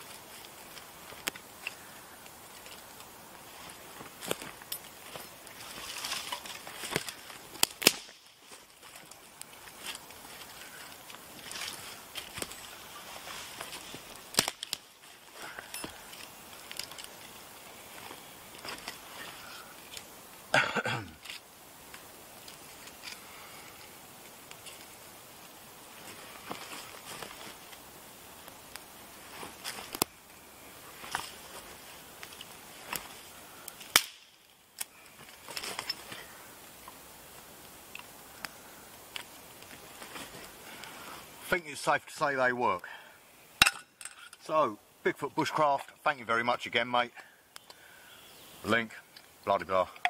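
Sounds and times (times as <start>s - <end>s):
campfire crackling: 0.0s - 50.0s.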